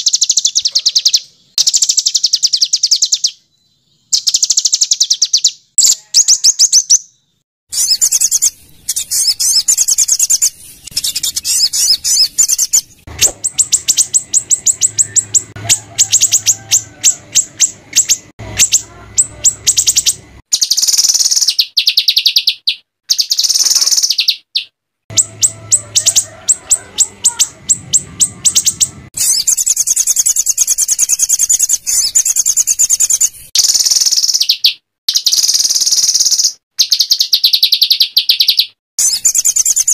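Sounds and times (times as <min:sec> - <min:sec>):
songbird singing rapid trills: 0:00.0 - 0:39.9.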